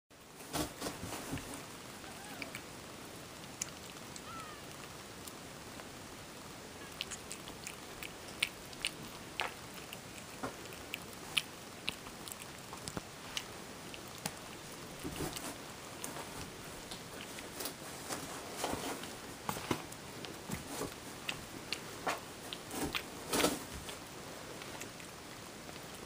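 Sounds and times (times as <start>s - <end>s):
cat chewing and lip-smacking: 1.2s - 26.0s.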